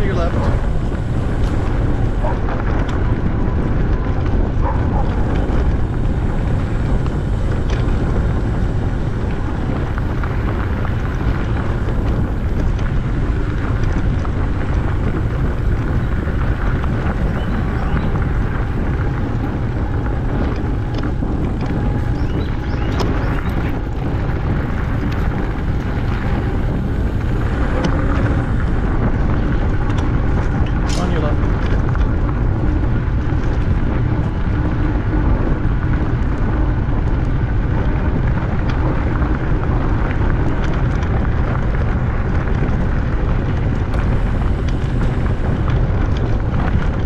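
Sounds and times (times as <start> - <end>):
bicycle tyre noise on pavement: 0.0 - 47.0
wind buffeting microphone: 0.0 - 47.0.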